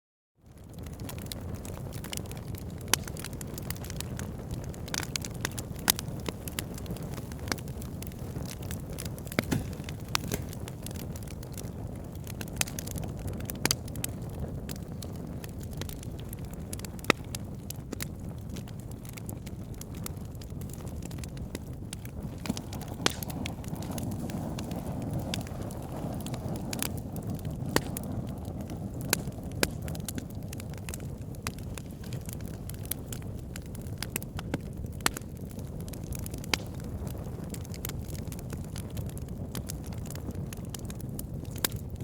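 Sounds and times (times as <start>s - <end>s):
wood fire crackling: 0.5s - 42.0s.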